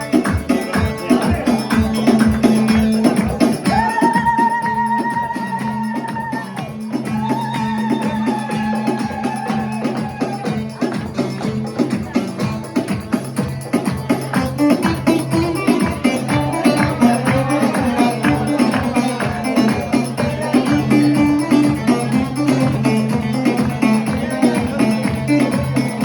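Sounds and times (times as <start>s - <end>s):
fast percussion beat: 0.0s - 26.0s.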